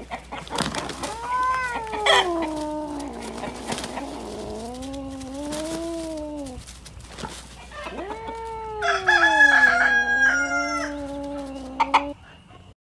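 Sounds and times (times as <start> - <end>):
rooster crowing: 0.6 - 6.6, 7.6 - 12.2
cat yowling: 0.8 - 6.7, 7.7 - 12.2.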